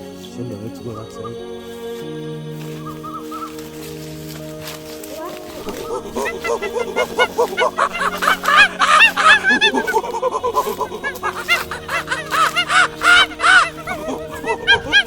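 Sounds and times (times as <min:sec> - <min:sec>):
music with held tones: 0:00.0 - 0:15.0.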